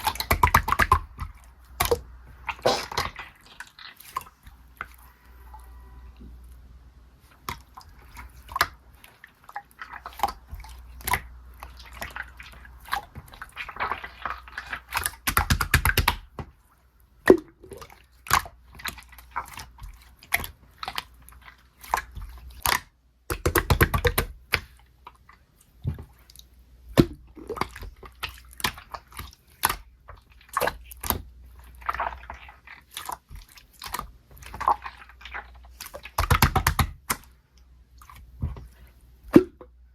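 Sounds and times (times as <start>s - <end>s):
slime squished by hand: 0.0s - 5.1s, 7.2s - 39.8s.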